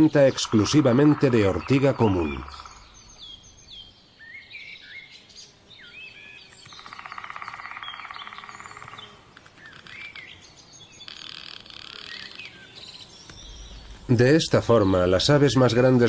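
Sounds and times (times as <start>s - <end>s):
rapid buzzing bird trill: 0.0s - 16.0s
small birds chirping: 0.0s - 16.0s.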